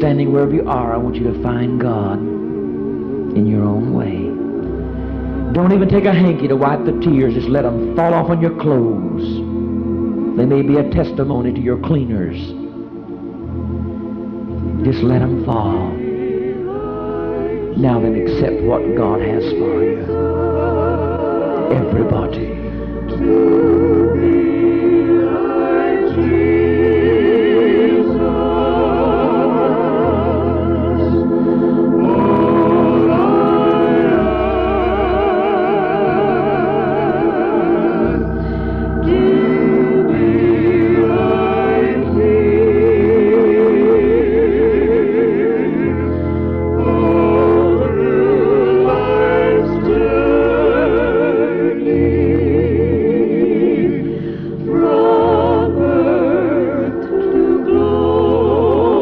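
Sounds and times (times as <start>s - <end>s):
low bass notes: 0.0s - 59.0s
organ chords: 0.0s - 59.0s
voices singing with vibrato: 0.0s - 59.0s.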